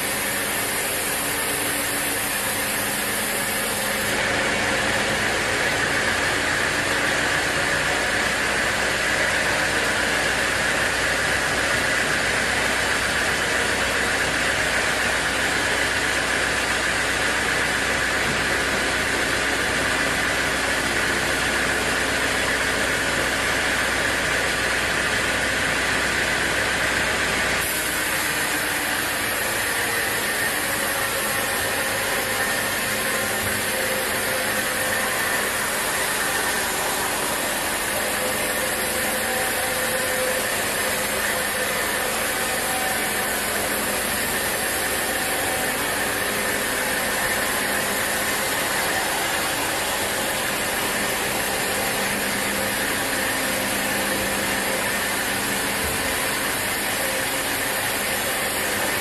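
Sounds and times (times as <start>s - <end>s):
hissing saw whine: 0.0s - 23.0s, 26.7s - 59.0s
sawmill saw running: 0.0s - 59.0s.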